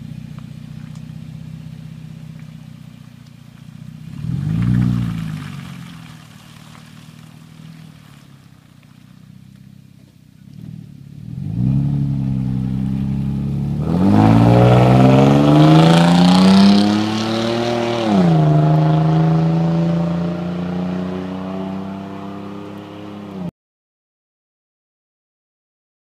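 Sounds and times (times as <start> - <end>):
truck engine accelerating: 0.0 - 23.5.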